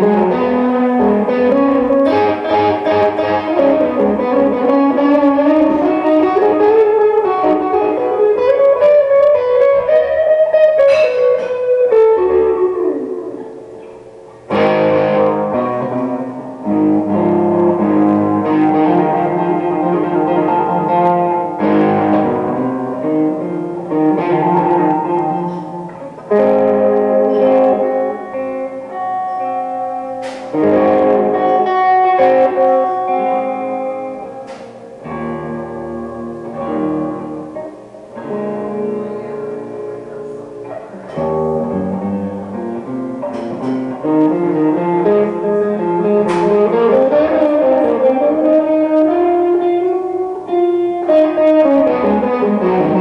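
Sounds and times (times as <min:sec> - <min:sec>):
slow blues guitar: 0:00.0 - 0:53.0.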